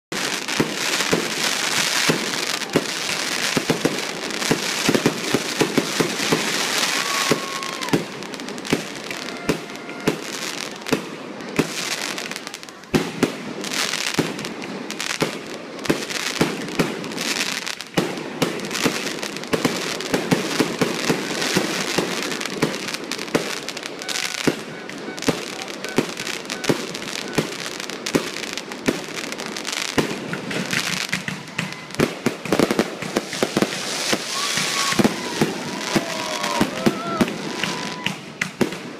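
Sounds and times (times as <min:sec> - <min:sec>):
fireworks crackling and hissing: 0:00.1 - 0:38.9.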